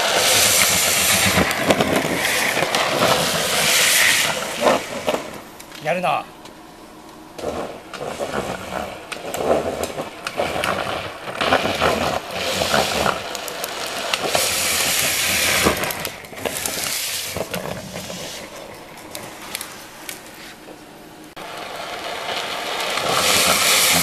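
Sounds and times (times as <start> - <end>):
trike wheels skidding on asphalt: 0.0 - 5.5, 7.3 - 20.7, 21.4 - 24.0.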